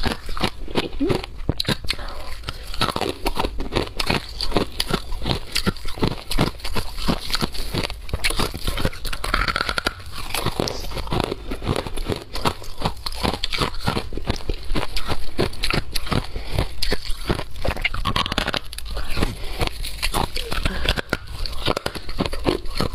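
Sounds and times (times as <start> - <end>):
ice being chewed: 0.0 - 22.9.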